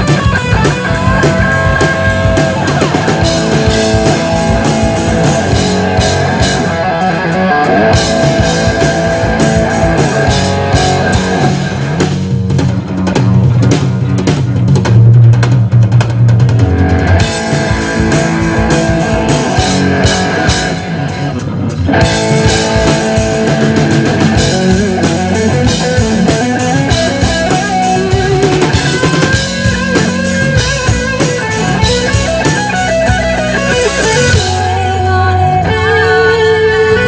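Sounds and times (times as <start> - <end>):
drum kit: 0.0 - 37.0
electric guitars: 0.0 - 37.0.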